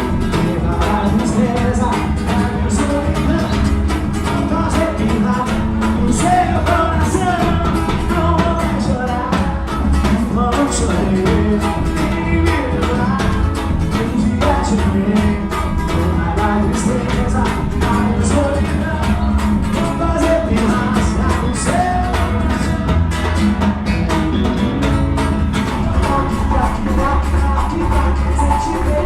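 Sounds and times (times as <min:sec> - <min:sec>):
fast percussion beat: 0:00.0 - 0:29.0
live band music: 0:00.0 - 0:29.0
person singing: 0:00.0 - 0:29.0.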